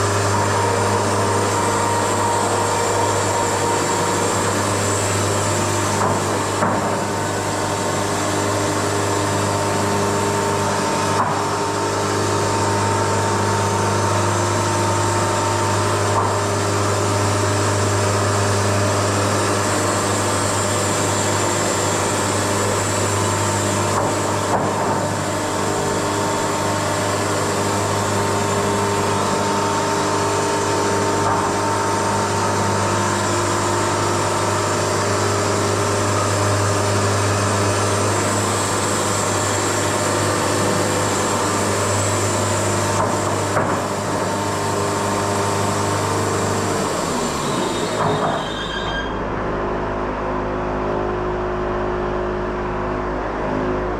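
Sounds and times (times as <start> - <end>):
sawmill machine drone: 0.0 - 53.9.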